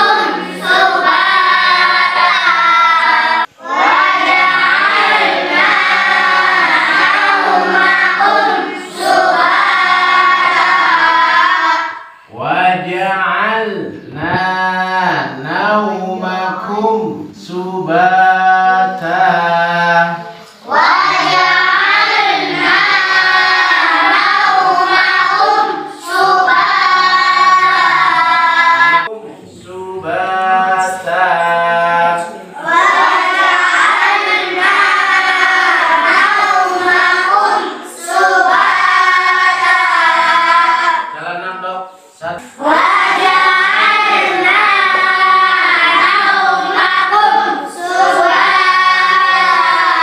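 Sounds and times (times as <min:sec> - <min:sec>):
children chanting in unison: 0:00.0 - 0:12.9, 0:13.6 - 0:50.0.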